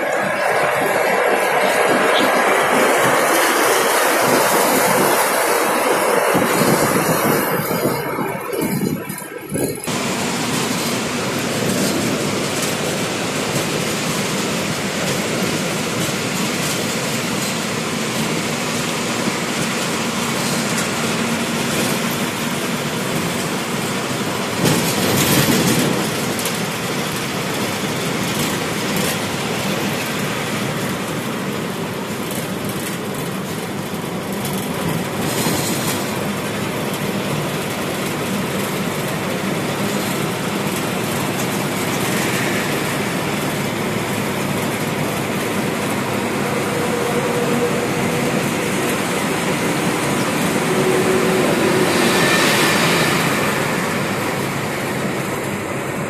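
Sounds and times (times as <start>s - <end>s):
bus engine drone: 0.0s - 56.0s
tyre and road noise: 0.0s - 56.0s.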